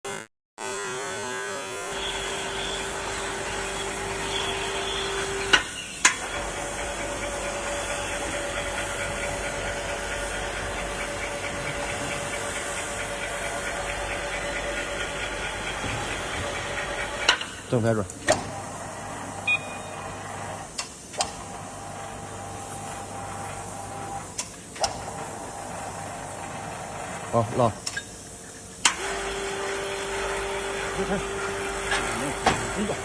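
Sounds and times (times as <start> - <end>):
drilling rig humming: 0.1 - 33.0.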